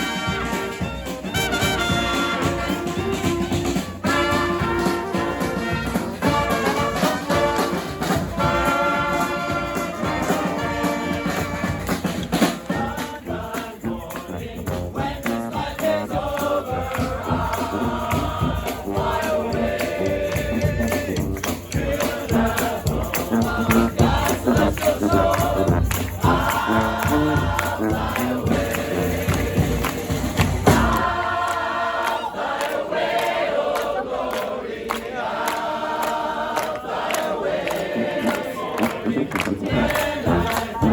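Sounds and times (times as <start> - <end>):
brass band playing: 0.0 - 31.4, 37.0 - 40.9
voices singing together: 0.0 - 40.9.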